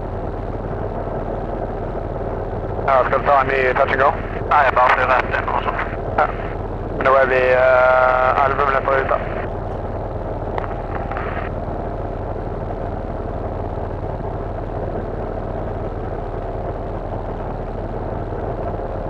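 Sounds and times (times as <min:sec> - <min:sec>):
plane engine and propeller droning: 0:00.0 - 0:19.0.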